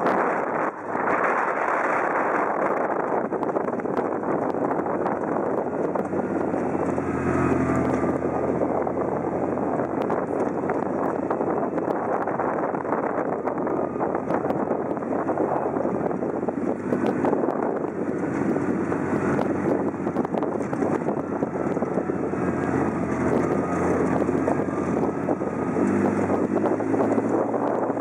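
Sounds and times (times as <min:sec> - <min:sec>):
vehicle engine hum: 0:00.0 - 0:28.0
vehicle rattling over ruts: 0:00.0 - 0:28.0
wind on microphone: 0:00.0 - 0:28.0.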